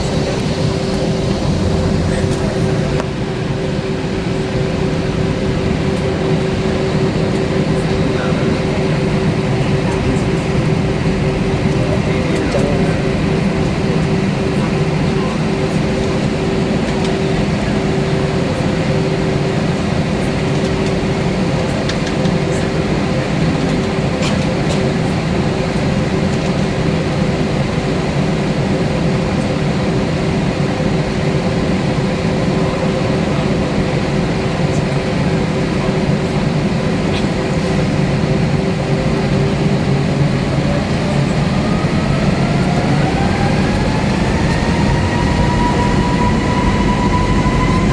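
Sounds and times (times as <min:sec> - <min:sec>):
airplane cabin hum: 0:00.0 - 0:47.9
jet engine whine: 0:00.0 - 0:47.9.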